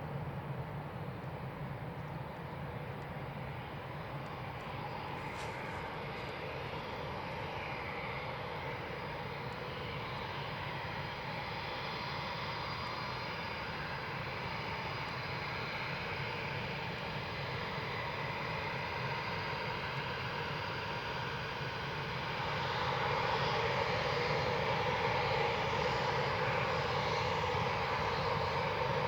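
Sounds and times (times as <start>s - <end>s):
faint jet whine: 0.0s - 29.0s.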